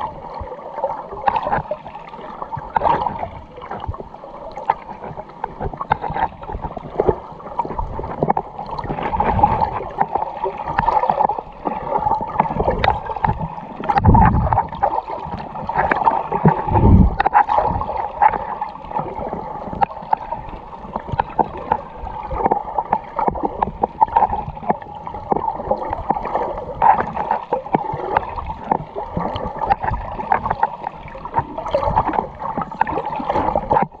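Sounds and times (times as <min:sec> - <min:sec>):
low underwater rumbles: 0:00.0 - 0:34.0
water gurgling underwater: 0:00.0 - 0:34.0.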